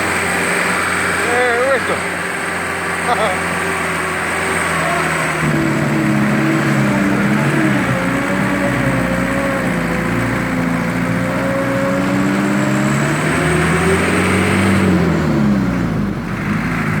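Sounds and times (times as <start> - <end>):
engine revving through exhaust: 0.0 - 17.0.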